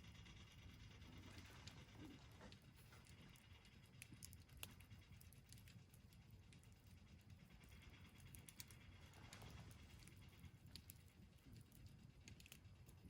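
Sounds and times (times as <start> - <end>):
faint campfire crackling: 0.0 - 13.0.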